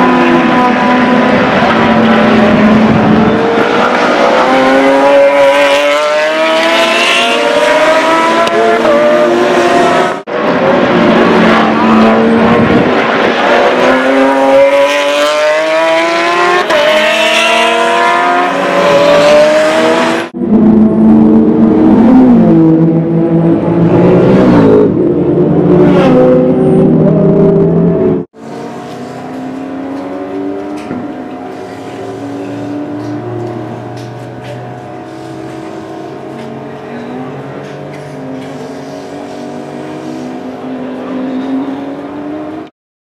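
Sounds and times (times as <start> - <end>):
car engine accelerating hard: 0.0 - 42.7.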